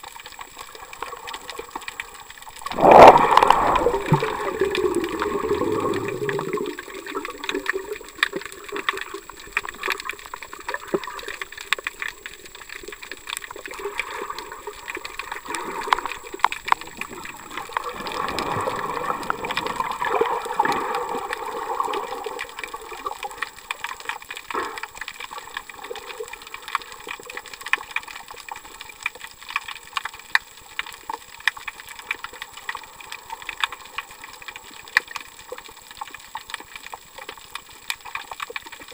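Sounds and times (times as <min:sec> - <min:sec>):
small sharp underwater clicks: 0:00.0 - 0:38.9
underwater wash: 0:00.0 - 0:38.9.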